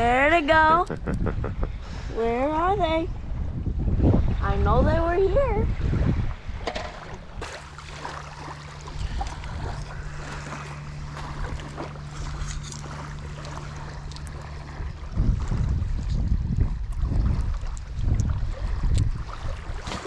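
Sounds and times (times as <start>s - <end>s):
steady low hum: 0.0s - 20.0s
wind buffeting microphone: 0.0s - 20.0s.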